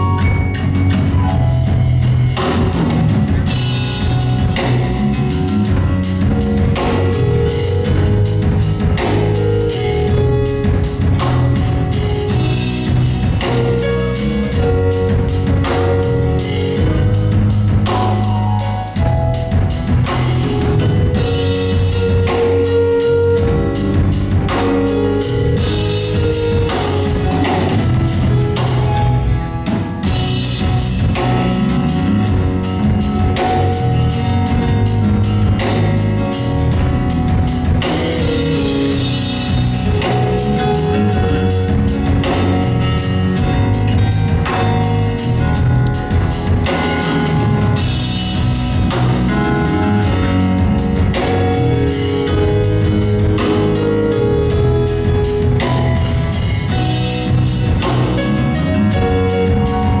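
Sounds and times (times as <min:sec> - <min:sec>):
music with drum kit and bass: 0:00.0 - 1:00.0.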